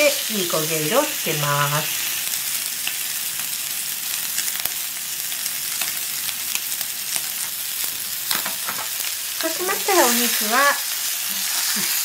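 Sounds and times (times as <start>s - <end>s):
steak sizzling in a frying pan: 0.0s - 12.0s.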